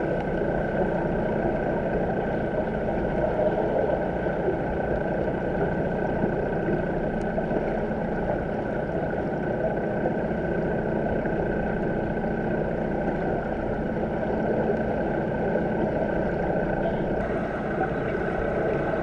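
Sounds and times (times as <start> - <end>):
thin steady hum: 0.0 - 19.0
underwater rumbling wash: 0.0 - 19.0.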